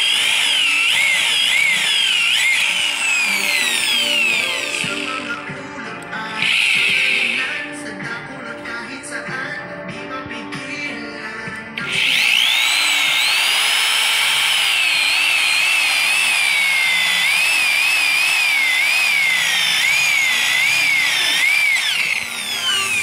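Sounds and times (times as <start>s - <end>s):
electric drill screeching through metal: 0.0s - 5.6s, 6.2s - 7.9s, 11.8s - 23.0s.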